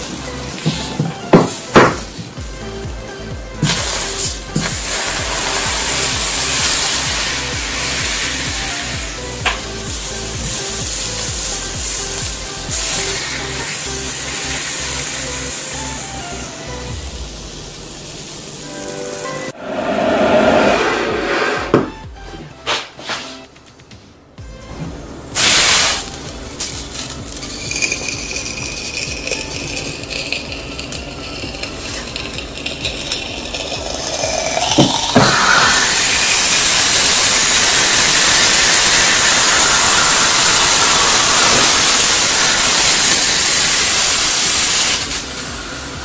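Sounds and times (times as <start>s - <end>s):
hot knife sizzling melting plastic: 0.0s - 19.6s, 25.3s - 46.0s
loud steady hiss: 0.0s - 19.6s, 25.1s - 46.0s.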